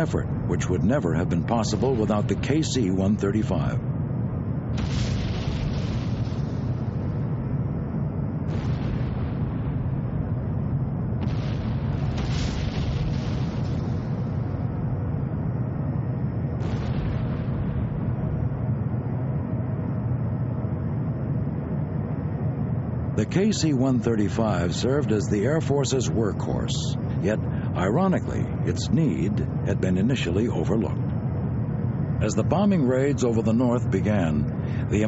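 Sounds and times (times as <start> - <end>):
bomb blasts: 0.0 - 35.0
heavy low rumble: 0.0 - 35.0.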